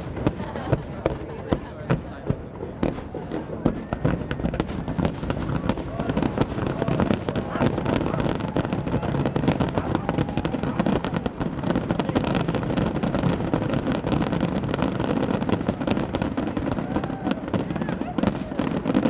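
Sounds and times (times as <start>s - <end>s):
fireworks crackling: 0.0s - 19.0s
low rumble of fireworks: 0.0s - 19.0s.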